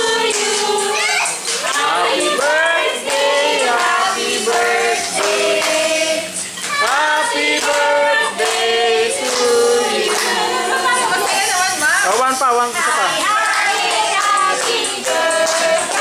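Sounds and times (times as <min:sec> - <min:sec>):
group of voices singing: 0:00.0 - 0:11.7, 0:13.0 - 0:16.0.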